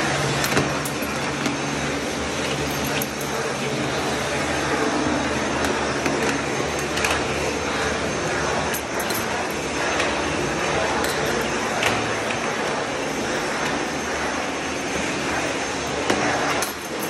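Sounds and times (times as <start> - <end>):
vacuum cleaner on tiled floor: 0.0 - 17.0.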